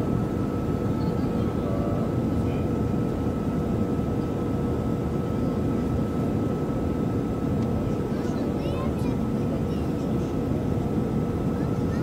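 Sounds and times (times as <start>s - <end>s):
jet engine and airflow noise: 0.0s - 12.0s.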